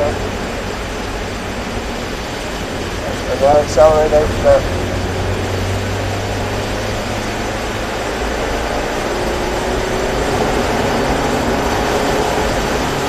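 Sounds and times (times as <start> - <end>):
car engine accelerating: 0.0 - 13.0
tyre and road noise: 0.0 - 13.0.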